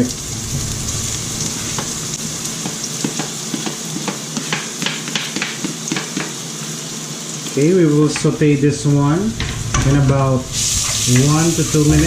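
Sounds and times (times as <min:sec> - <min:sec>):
onion and garlic sizzling in oil: 0:00.0 - 0:12.0.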